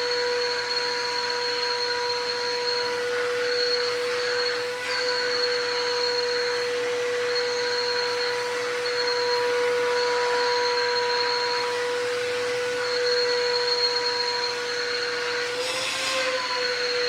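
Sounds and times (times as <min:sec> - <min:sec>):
high airflow whistle: 0:00.0 - 0:17.0
shop vacuum motor whine: 0:00.0 - 0:17.0.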